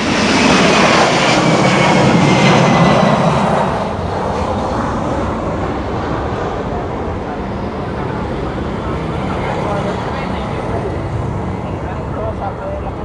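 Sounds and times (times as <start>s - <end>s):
jet engines roaring with falling whine: 0.0s - 13.0s.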